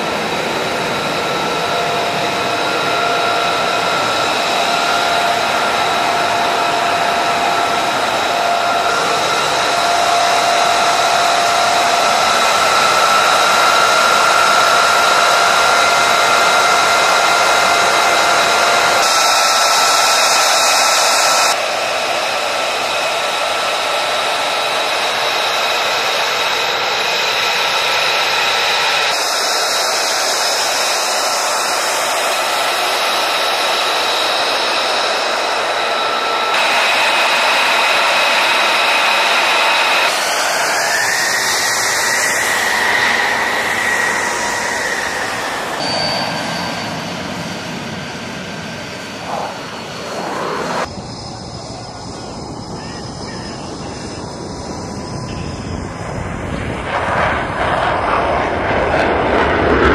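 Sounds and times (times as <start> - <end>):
jet engine idling: 0.0 - 59.9.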